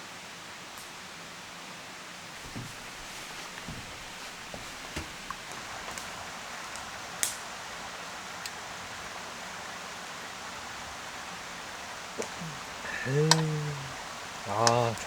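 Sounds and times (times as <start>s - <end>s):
stream flowing: 0.0s - 15.0s.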